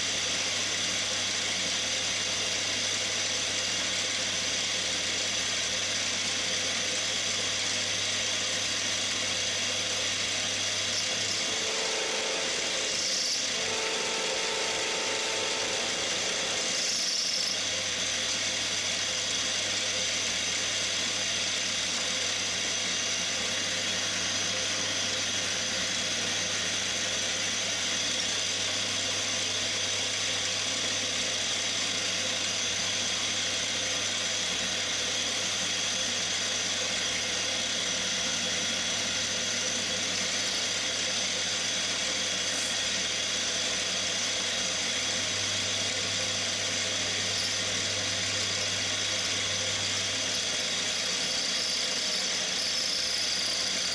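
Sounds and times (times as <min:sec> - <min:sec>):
high whine of end mill cutting: 0:00.0 - 0:53.9
milling machine motor hum: 0:00.0 - 0:53.9.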